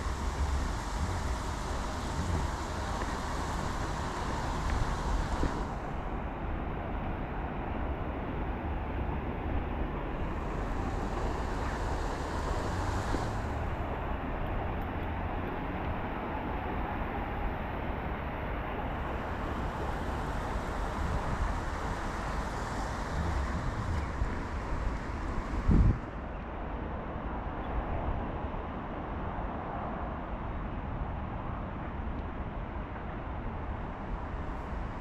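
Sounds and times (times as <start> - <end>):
road traffic rumble: 0.0 - 30.1, 30.9 - 35.0.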